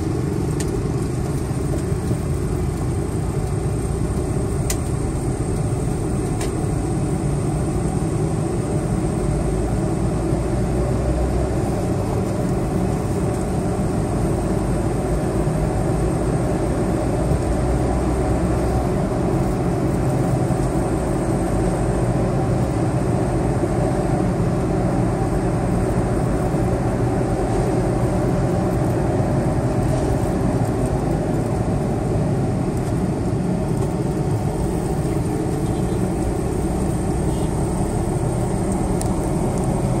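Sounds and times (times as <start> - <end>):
car cabin driving noise: 0.0 - 40.0.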